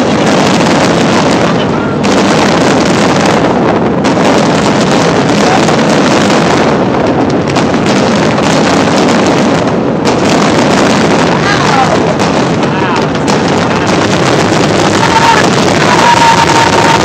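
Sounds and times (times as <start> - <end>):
crackling firework bursts: 0.0 - 17.0
fireworks launches and bangs: 0.0 - 17.0.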